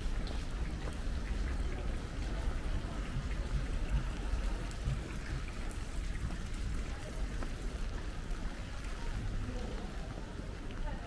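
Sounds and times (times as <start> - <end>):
rain on cobblestones: 0.0 - 11.0.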